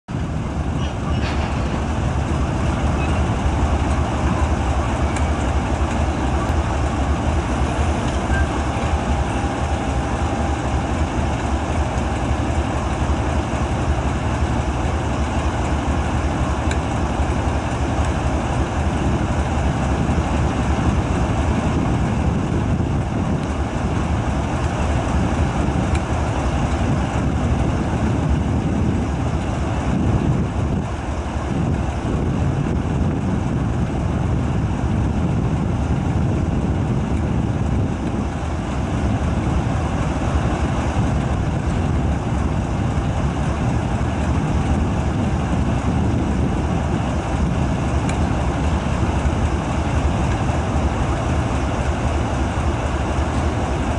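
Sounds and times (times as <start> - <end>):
diesel locomotive engine rumbling: 0.0 - 53.9.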